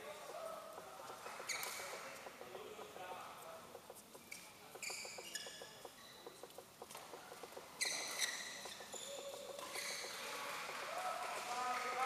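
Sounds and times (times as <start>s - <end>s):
sports shoes squeaking: 0.2s - 10.9s.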